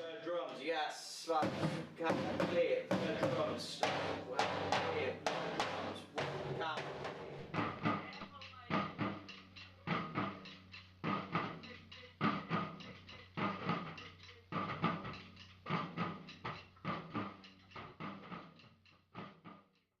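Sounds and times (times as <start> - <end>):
drums playing a rhythm: 1.3 - 19.7.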